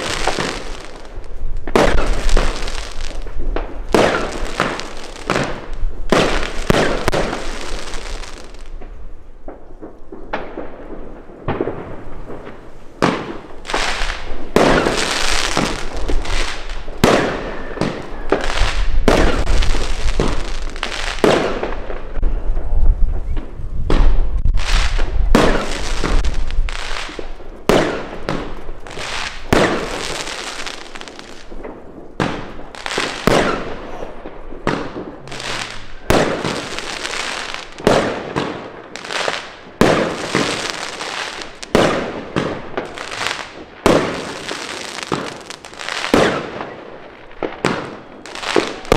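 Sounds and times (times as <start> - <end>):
fireworks firing and bursting: 0.0 - 48.9.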